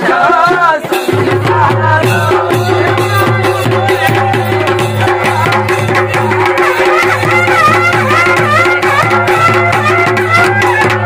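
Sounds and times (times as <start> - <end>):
fast drum beat: 0.0 - 11.0.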